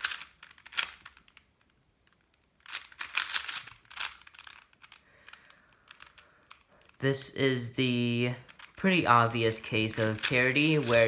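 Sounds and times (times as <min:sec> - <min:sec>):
puzzle cube layers clicking: 0:00.0 - 0:07.0, 0:08.4 - 0:11.0.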